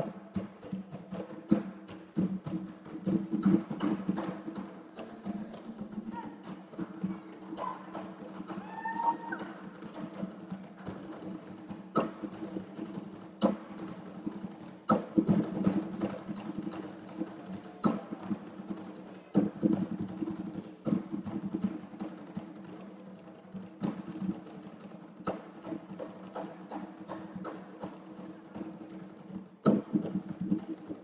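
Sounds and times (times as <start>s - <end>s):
conga drums played by hand: 0.0s - 31.0s.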